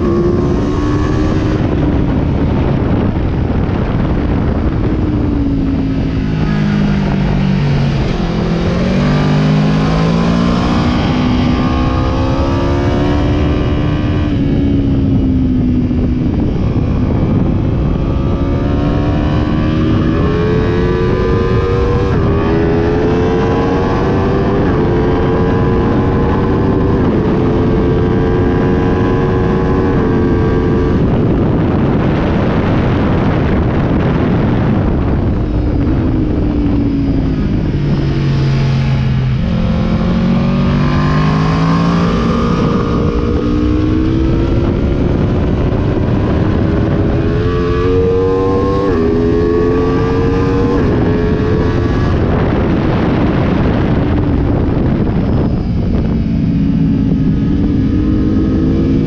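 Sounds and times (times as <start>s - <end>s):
motorcycle engine shifting gears: 0.0s - 59.0s
wind rush: 0.0s - 59.0s.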